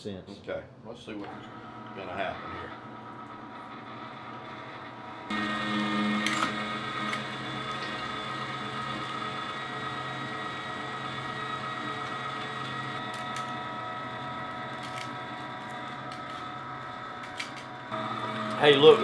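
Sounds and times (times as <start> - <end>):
electric meat grinder humming: 1.3 - 19.0.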